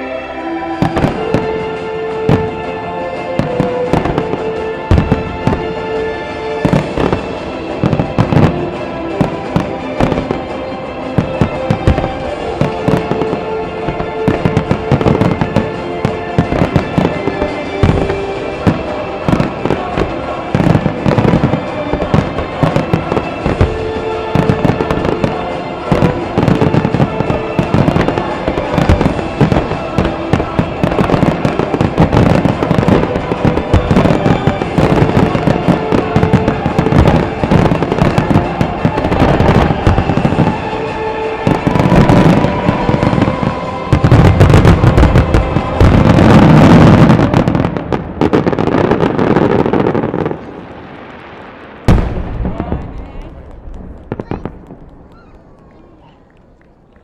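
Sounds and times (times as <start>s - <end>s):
music over loudspeakers: 0.0s - 50.4s
fireworks bursting and crackling: 0.0s - 57.0s.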